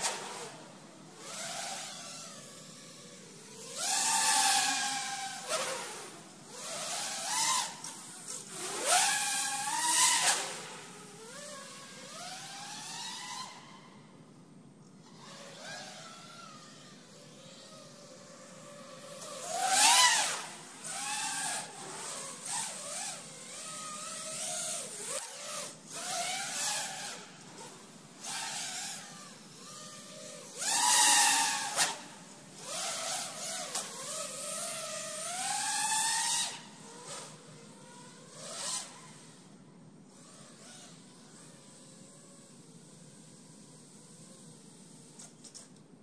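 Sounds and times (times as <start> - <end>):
quadcopter motors whining: 0.0 - 13.9, 15.0 - 39.5, 40.1 - 45.7.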